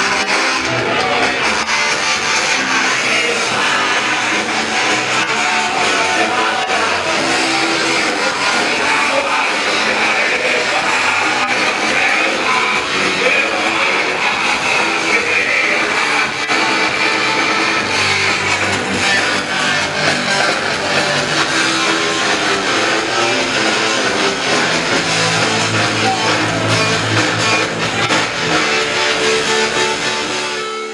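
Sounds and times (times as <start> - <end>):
electric guitar: 0.0 - 30.9
punk rock band playing live: 0.0 - 30.9.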